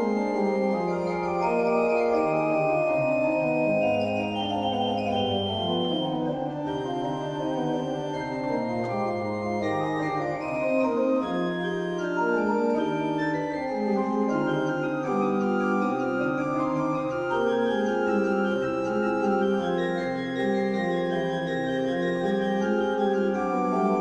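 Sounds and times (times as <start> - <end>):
pipe organ playing: 0.0 - 24.0.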